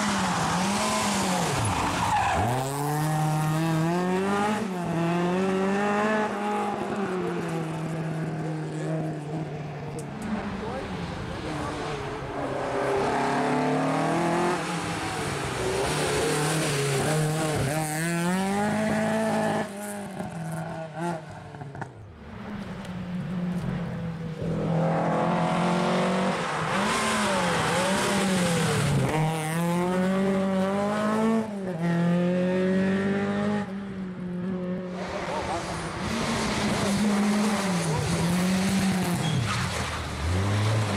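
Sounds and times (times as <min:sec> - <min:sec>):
rally cars revving past: 0:00.0 - 0:09.6, 0:10.3 - 0:21.9, 0:23.7 - 0:40.9.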